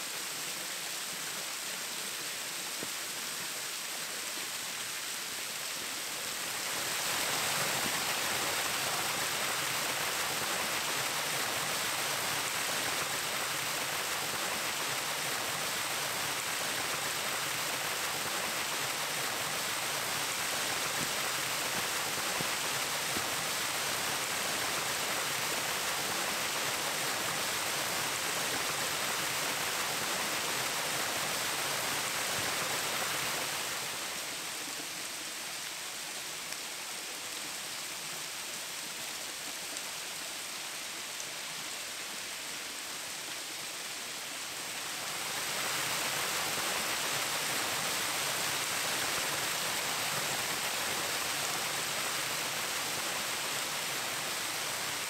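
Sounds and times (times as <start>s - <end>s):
waterfall rushing: 0.0s - 37.2s, 38.3s - 55.0s.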